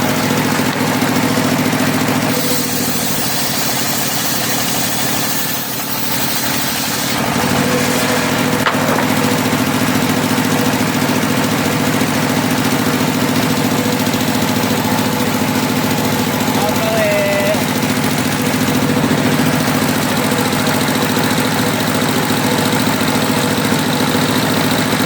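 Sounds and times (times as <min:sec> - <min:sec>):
engine drone: 0:00.0 - 0:25.0
circular saw cutting wood: 0:00.2 - 0:24.8.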